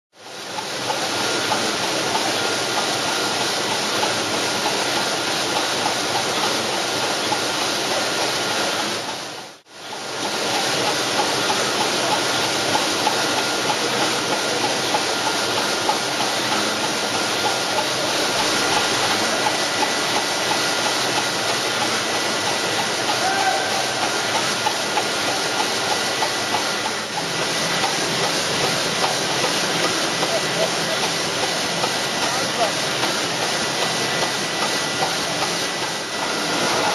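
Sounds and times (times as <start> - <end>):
printing machine running: 0.2 - 36.9.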